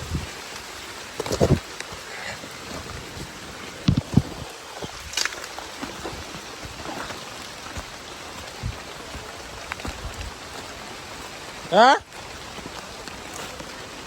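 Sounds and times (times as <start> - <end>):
heavy raindrops striking close: 0.0 - 14.0
steady rain falling: 0.0 - 14.0.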